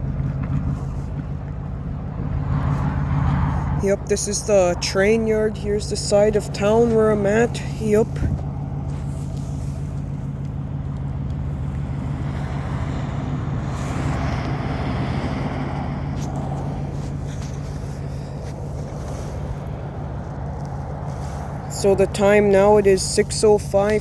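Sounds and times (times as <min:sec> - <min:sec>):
low engine hum: 0:00.0 - 0:24.0
vehicle passing: 0:00.0 - 0:24.0.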